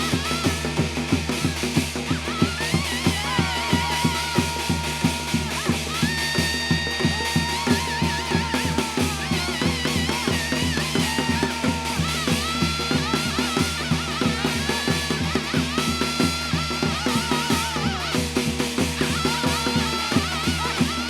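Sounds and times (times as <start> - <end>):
fast steady drumming: 0.0 - 21.0.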